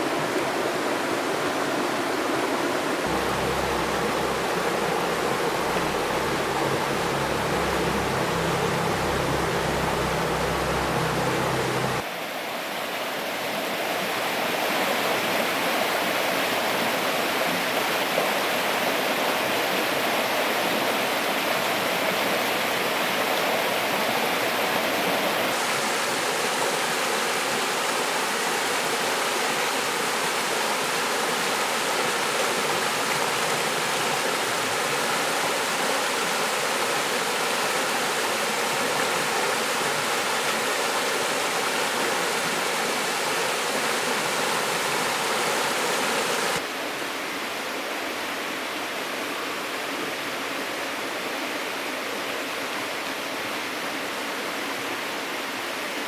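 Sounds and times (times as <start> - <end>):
rushing river water: 0.0 - 55.9.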